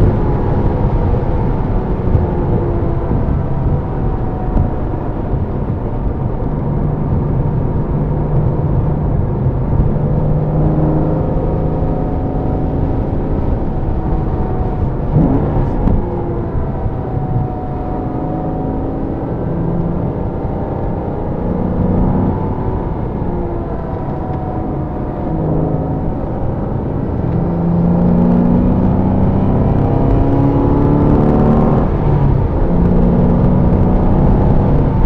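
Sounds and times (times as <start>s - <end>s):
car engine from inside: 0.0s - 35.0s.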